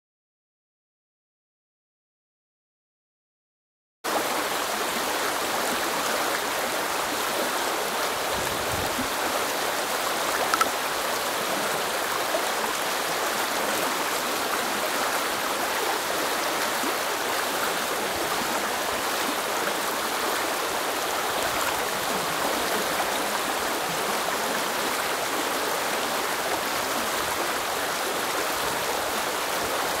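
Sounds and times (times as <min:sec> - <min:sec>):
river water over stones: 0:04.1 - 0:30.0.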